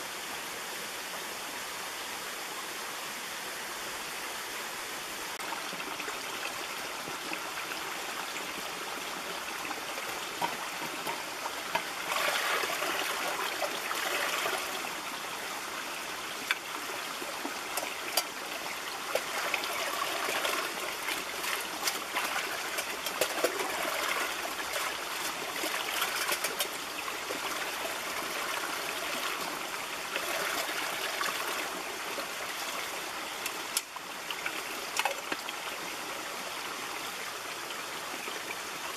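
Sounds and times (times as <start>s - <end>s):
stream running over rocks: 0.0s - 38.9s
pot filling in water cascade: 5.3s - 38.9s.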